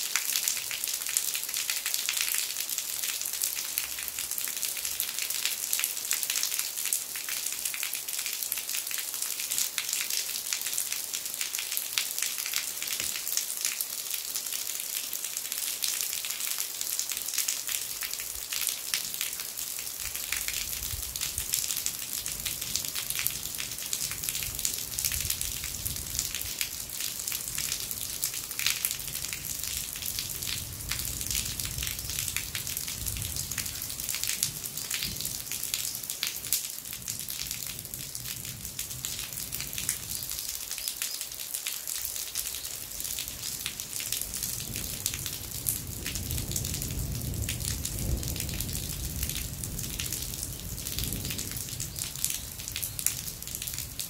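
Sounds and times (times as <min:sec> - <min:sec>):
rainwater dripping from roof eaves: 0:00.0 - 0:54.0.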